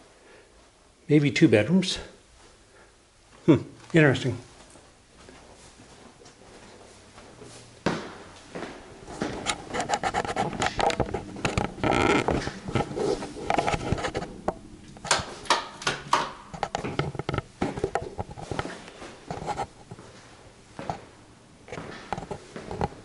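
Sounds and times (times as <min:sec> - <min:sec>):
footsteps: 0:03.3 - 0:23.0.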